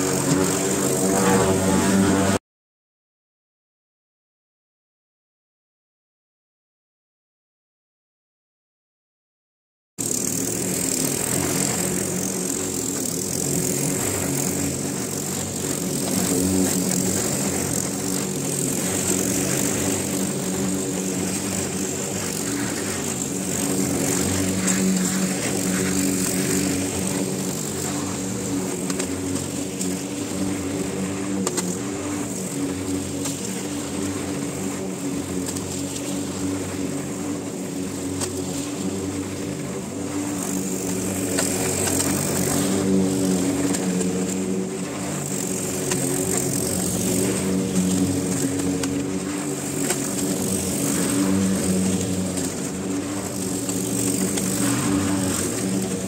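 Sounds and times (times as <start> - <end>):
lawn mower engine running: 0.0 - 2.4, 10.0 - 56.0.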